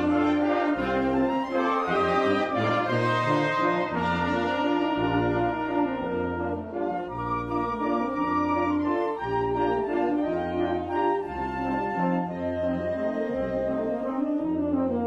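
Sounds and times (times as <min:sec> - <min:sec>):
brass band playing slow piece: 0:00.0 - 0:15.0.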